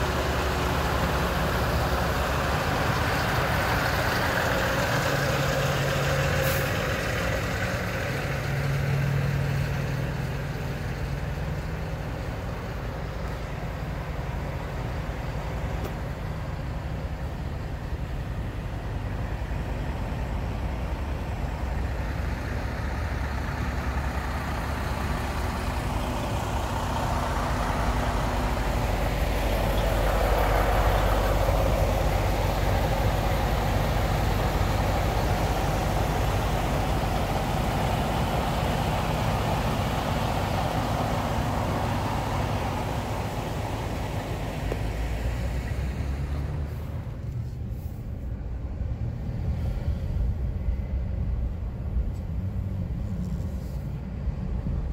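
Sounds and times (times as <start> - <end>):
idling diesel truck engines: 0.0 - 54.9.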